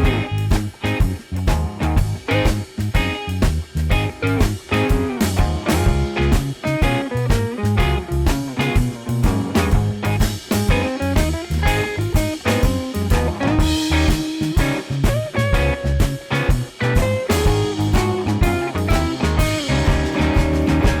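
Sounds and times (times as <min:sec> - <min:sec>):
upbeat guitar instrumental with drums: 0:00.0 - 0:21.0.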